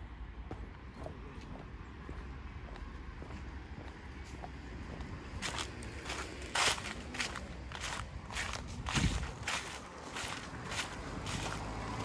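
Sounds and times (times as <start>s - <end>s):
steady low rumble: 0.0s - 11.6s
footsteps on pavement: 0.4s - 12.0s.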